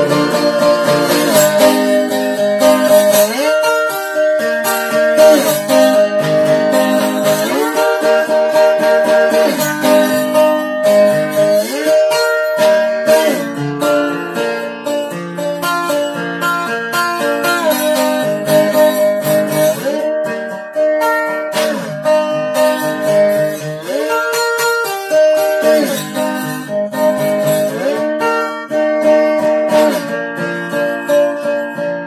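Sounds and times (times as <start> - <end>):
slide guitar playing: 0.0 - 32.0.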